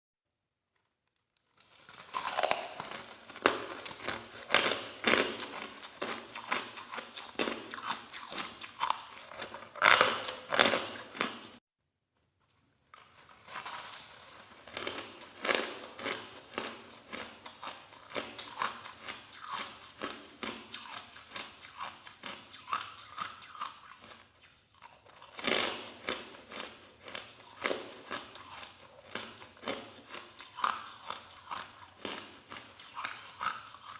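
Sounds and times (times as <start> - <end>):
ice being chewed: 1.4 - 11.6, 12.8 - 33.9.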